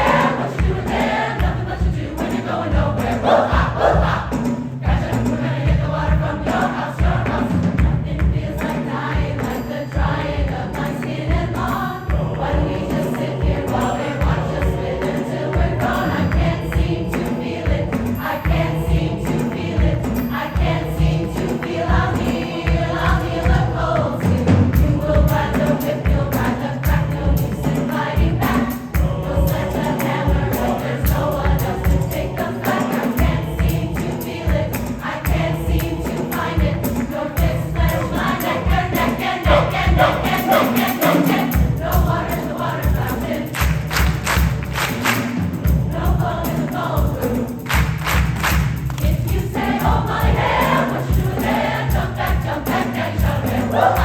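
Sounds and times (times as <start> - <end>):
choir singing in parts: 0.0 - 54.0
rhythmic low beat: 0.0 - 54.0.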